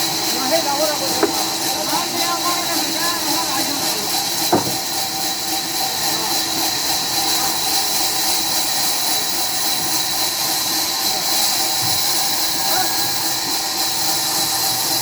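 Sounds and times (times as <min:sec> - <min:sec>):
sawmill machinery hissing: 0:00.0 - 0:15.0.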